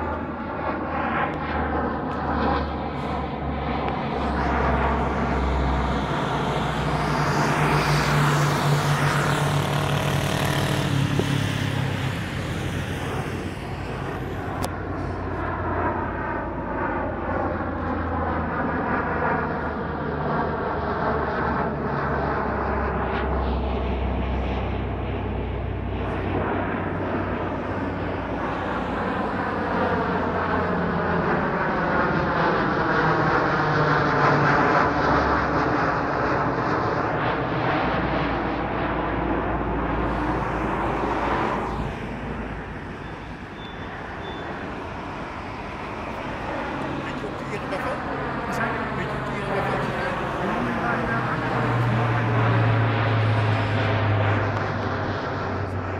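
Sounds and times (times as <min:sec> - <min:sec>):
propeller aircraft drone: 0:00.0 - 0:55.9.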